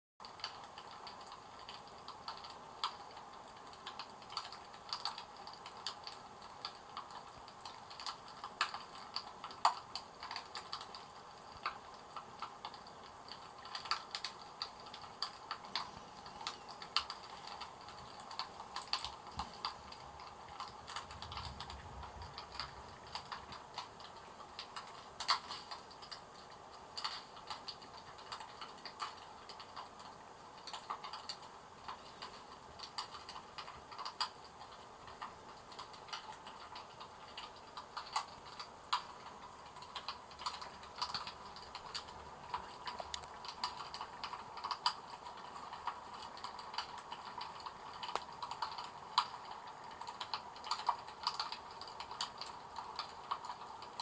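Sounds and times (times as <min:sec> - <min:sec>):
faint steady hiss: 0:00.2 - 0:54.0
light clicks and crackles: 0:00.2 - 0:54.0.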